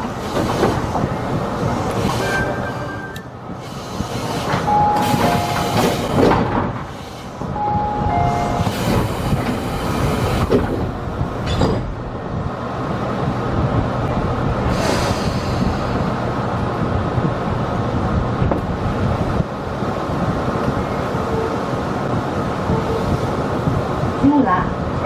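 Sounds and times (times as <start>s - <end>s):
train equipment humming: 0.0s - 25.0s.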